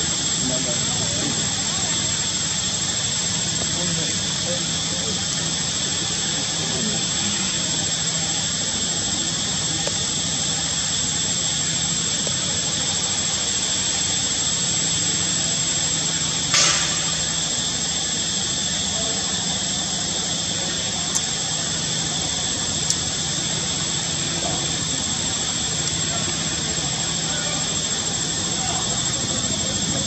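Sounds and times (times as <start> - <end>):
high-pitched whine: 0.0 - 30.0.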